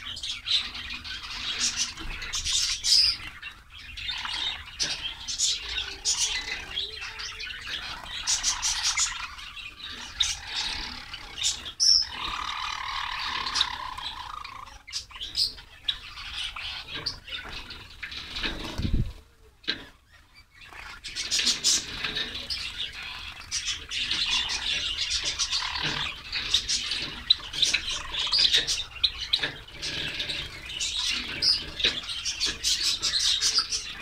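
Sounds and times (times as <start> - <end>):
sparrows chirping: 0.0 - 34.0.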